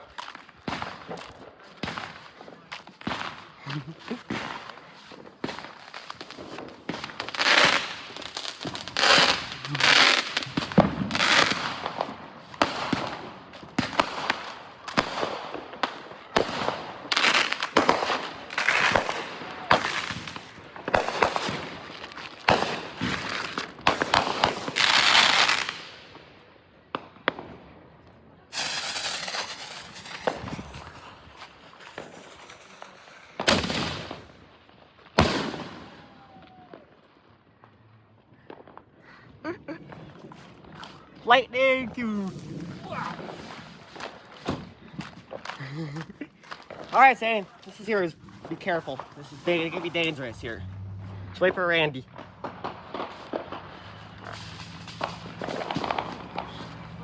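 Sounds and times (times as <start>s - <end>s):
fireworks bangs with crackling: 0.0s - 37.5s, 38.3s - 57.0s.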